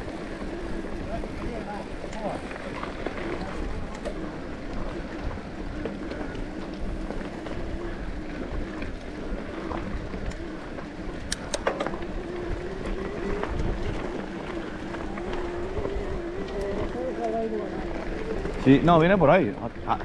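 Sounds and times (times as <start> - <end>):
bike clicks and rattles: 0.0 - 20.0
bike tyres rumbling on dirt: 0.0 - 20.0
wind on camera: 0.0 - 20.0.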